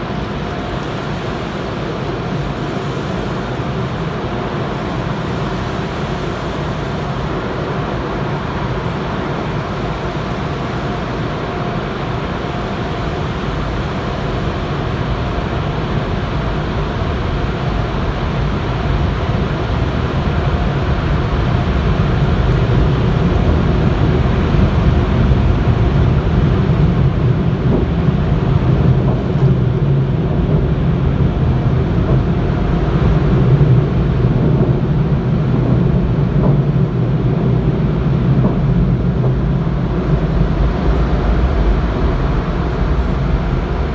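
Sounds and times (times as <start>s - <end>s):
car wash machinery rumbling: 0.0s - 43.9s.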